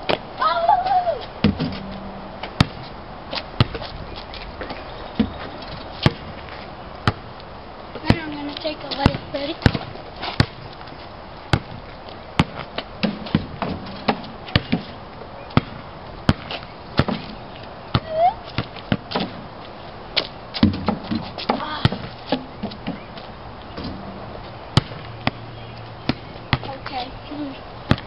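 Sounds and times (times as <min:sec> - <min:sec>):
basketball bouncing on asphalt: 0:01.4 - 0:04.0, 0:04.6 - 0:28.0.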